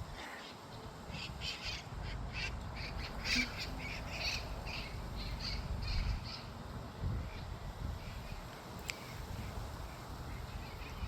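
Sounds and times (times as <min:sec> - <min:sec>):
birds calling: 0:00.1 - 0:11.0.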